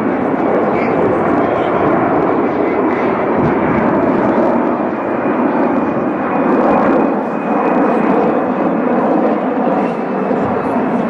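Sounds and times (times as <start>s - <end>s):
jet engines roaring with whine: 0.0s - 11.0s.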